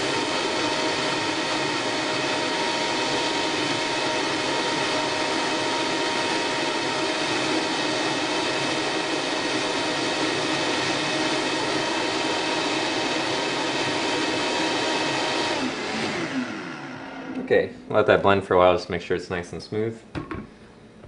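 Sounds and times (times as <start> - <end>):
blender running at high speed: 0.0 - 17.4.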